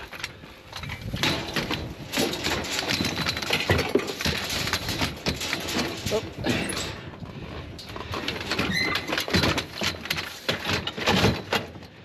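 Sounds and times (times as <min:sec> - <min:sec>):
scrap metal clanking: 0:00.0 - 0:11.8.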